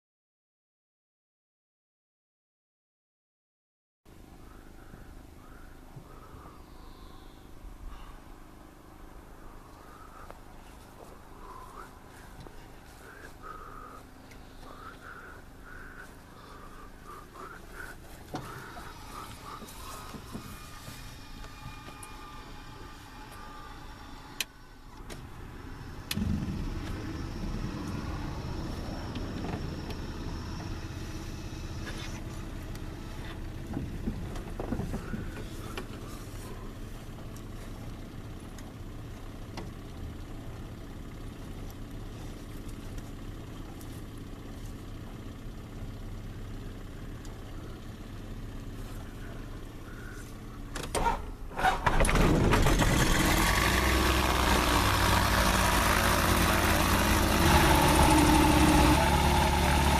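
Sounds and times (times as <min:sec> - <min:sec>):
steady low hum: 0:04.1 - 0:52.2
aircraft engine cranking and starting: 0:04.4 - 0:59.9.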